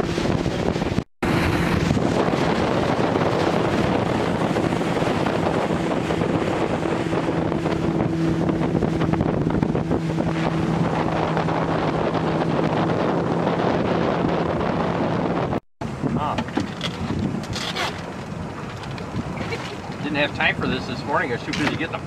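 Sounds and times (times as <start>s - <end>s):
motorboat engine hum: 0.0s - 22.0s
water rushing past hull: 0.0s - 22.0s
wind buffeting microphone: 0.0s - 22.0s.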